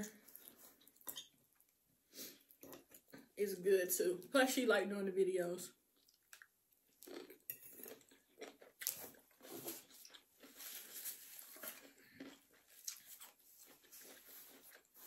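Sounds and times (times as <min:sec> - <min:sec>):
person chewing food: 0:00.2 - 0:03.3, 0:05.9 - 0:15.0.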